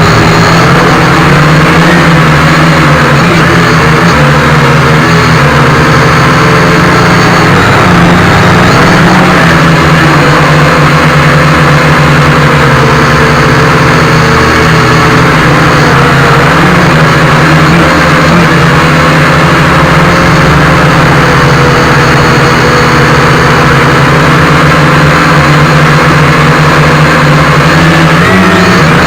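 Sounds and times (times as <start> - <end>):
quadcopter motors and propellers: 0.0 - 29.0.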